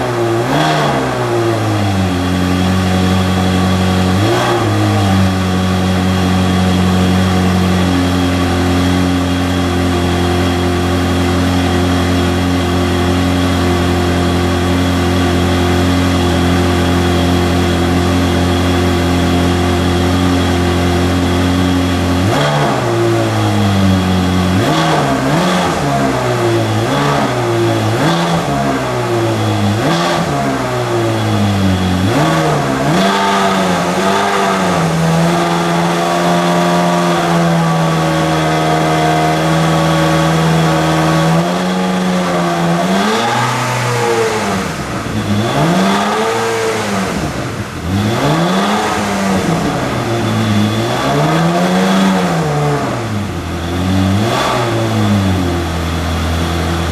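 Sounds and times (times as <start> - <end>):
car engine idling: 0.0 - 56.9
engine revving in throttle blips: 0.0 - 56.9.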